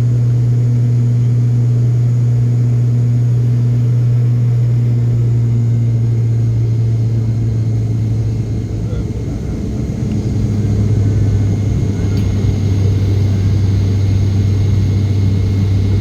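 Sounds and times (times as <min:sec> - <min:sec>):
airliner cabin engine hum: 0:00.0 - 0:16.0.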